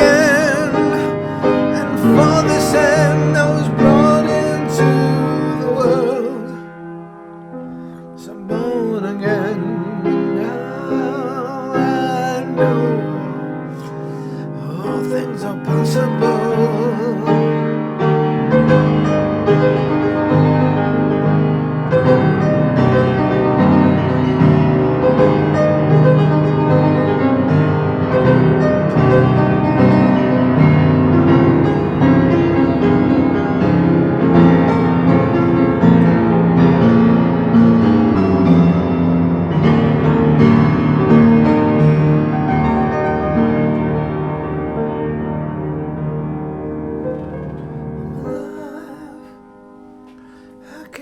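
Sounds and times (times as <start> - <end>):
piano notes: 0.0 - 51.0.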